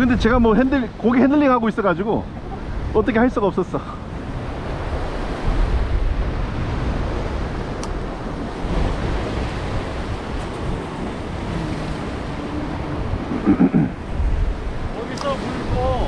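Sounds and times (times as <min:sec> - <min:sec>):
ocean surf breaking over rocks: 0:00.0 - 0:16.0.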